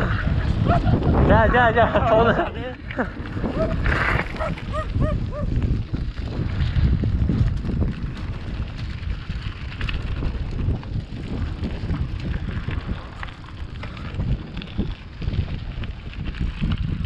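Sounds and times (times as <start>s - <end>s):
bicycle frame rattling: 0.0s - 17.0s
bicycle tyres crunching on stones: 0.0s - 17.0s
wind buffeting microphone: 0.0s - 17.0s.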